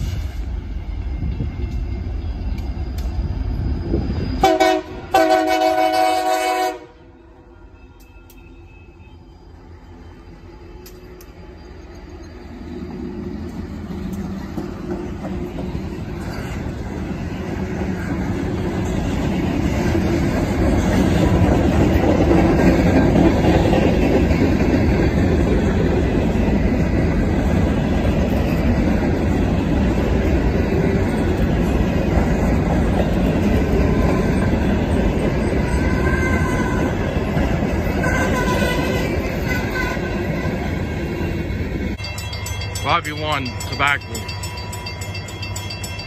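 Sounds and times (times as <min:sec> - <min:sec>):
freight train passing: 0:00.0 - 0:46.0
wheels rumbling on rail: 0:00.0 - 0:46.0.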